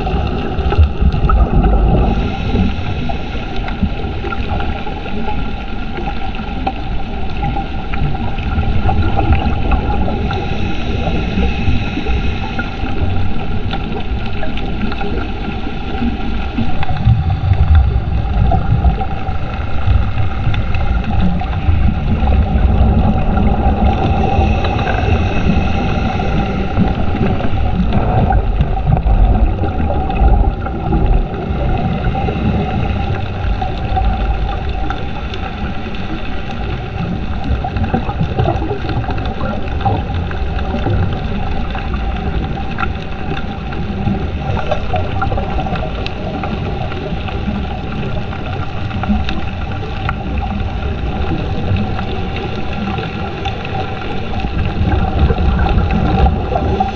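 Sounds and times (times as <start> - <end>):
underwater low rumble: 0.0 - 56.9.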